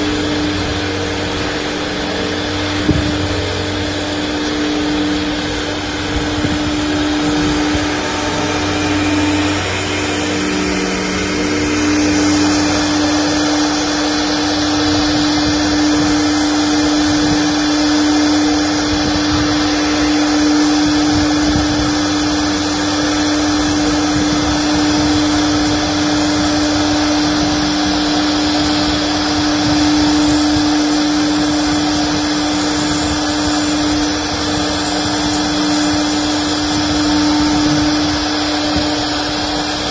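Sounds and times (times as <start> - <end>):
hissing cutting noise: 0.0 - 39.9
router spindle whine: 0.0 - 39.9.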